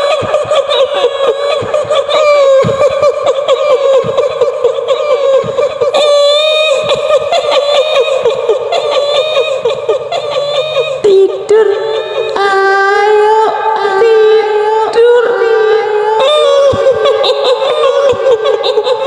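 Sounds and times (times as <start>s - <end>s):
woman cackling laugh: 0.0s - 12.4s, 16.1s - 19.0s
woman singing wailing tune: 0.0s - 19.0s.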